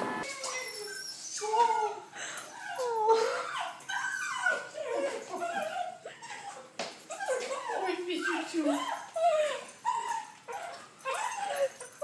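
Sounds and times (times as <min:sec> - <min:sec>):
small dog whining: 0:00.2 - 0:12.0.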